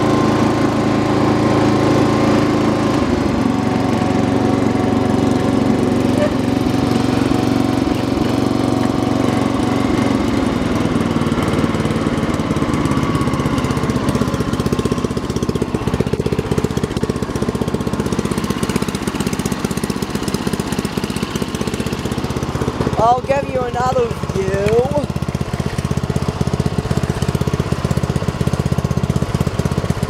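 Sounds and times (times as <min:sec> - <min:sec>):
lawn tractor engine running: 0:00.0 - 0:30.0.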